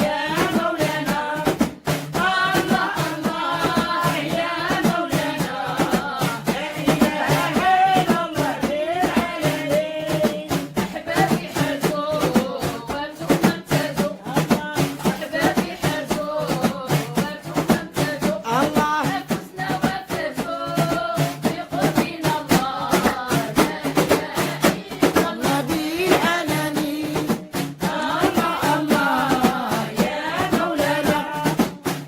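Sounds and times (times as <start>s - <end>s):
fast percussion beat: 0.0s - 32.0s
person singing devotional chant: 0.0s - 32.0s.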